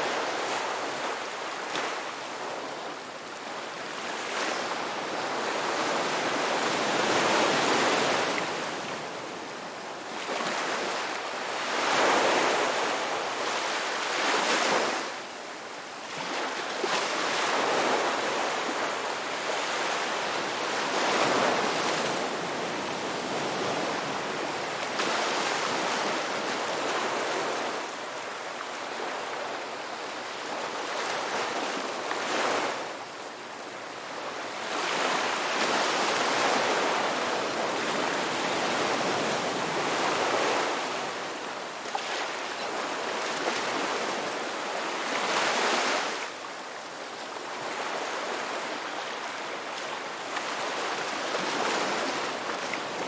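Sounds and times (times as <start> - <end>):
ocean waves breaking on beach: 0.0 - 53.0.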